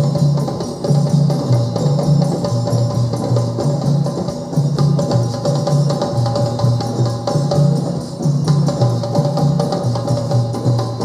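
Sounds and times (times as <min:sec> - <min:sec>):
djembe drums playing rhythm: 0:00.0 - 0:11.0.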